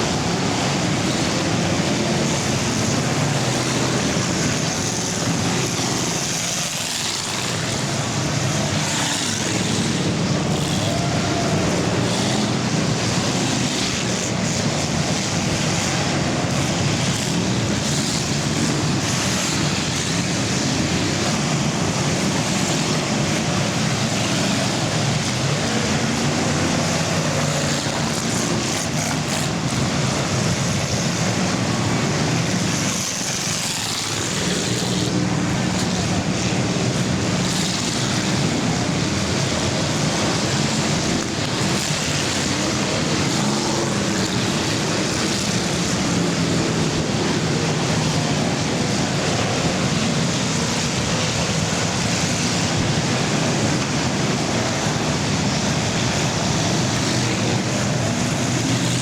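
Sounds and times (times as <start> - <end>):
cars passing by: 0.0 - 59.0
racing car engines roaring: 0.0 - 59.0.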